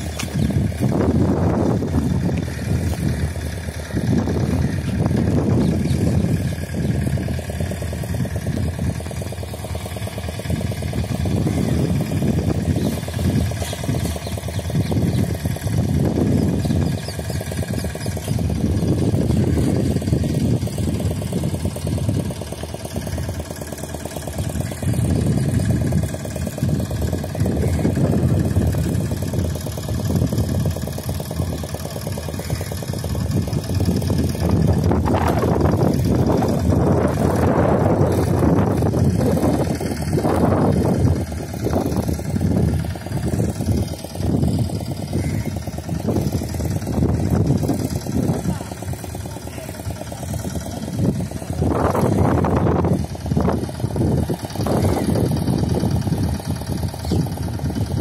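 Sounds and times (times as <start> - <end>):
boat engine running low: 0.0 - 58.0.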